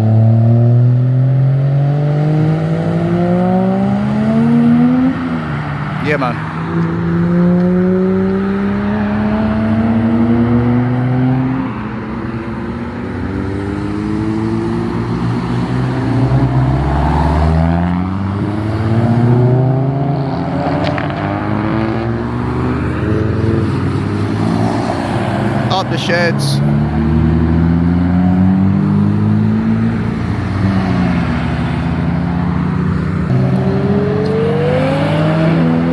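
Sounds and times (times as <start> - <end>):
car engines accelerating: 0.0 - 35.9.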